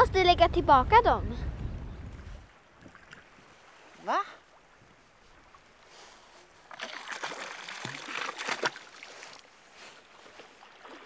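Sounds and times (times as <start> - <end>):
shallow water splashing: 2.1 - 11.0.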